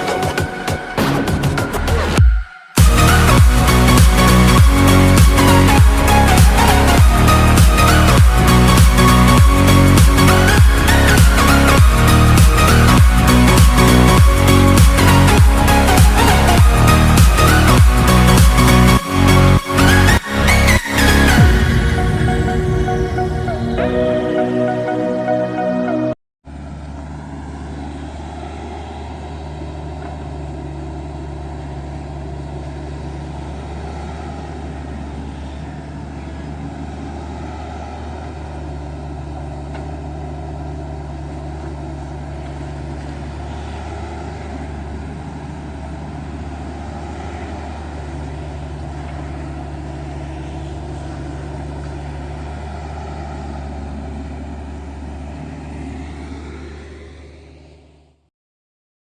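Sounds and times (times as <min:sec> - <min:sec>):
excavator diesel engine running: 0:00.0 - 0:58.2
rising and falling engine whine: 0:00.0 - 0:58.3.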